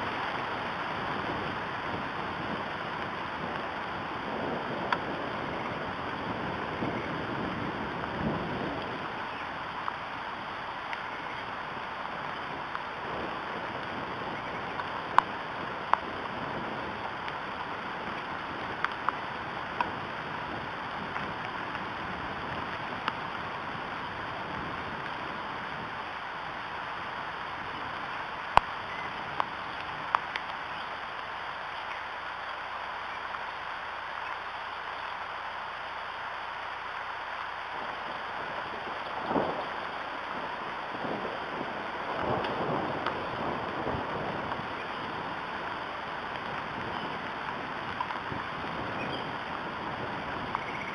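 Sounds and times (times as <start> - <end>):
raindrops tapping close by: 0.0 - 50.9
steady rain on trees: 0.0 - 50.9.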